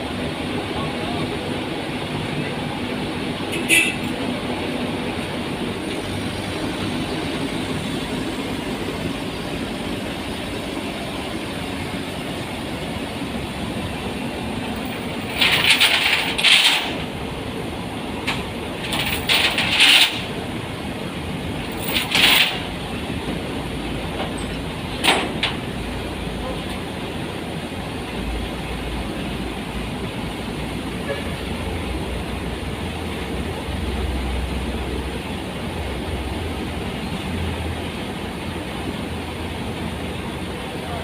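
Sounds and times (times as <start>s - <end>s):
excavator running: 0.0s - 41.0s.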